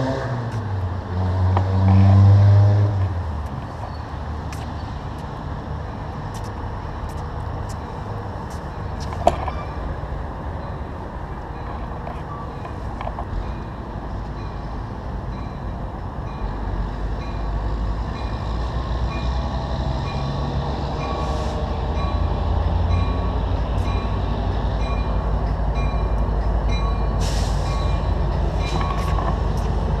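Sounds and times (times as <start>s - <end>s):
train rumbling past: 0.0s - 30.0s.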